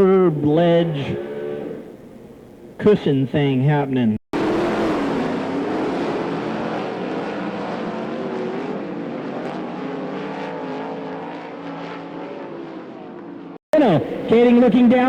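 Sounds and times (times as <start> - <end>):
race car engines: 0.0 - 3.4, 4.4 - 15.0.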